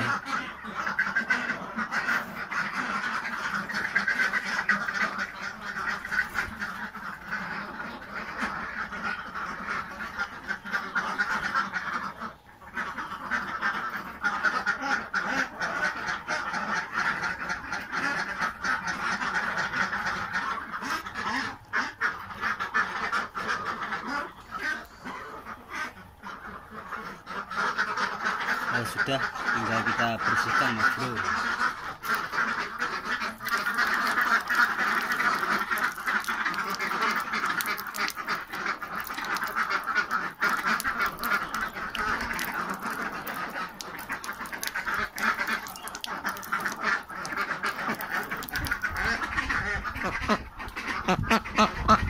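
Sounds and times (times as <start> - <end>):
ducks quacking: 0.0 - 52.0.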